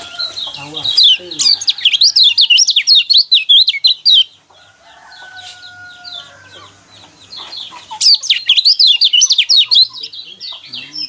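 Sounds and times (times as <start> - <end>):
white-eyes chirping: 0.0 - 4.3, 5.4 - 11.0.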